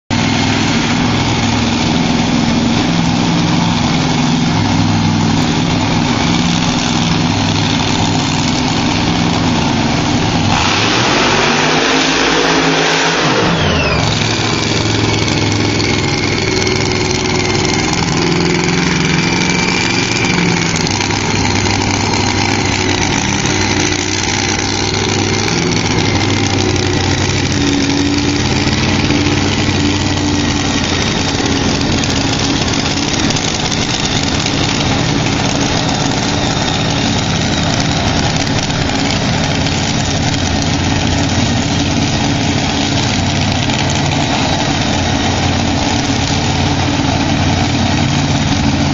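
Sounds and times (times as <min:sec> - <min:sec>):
dragster engine idling and revving: 0:00.0 - 0:48.9.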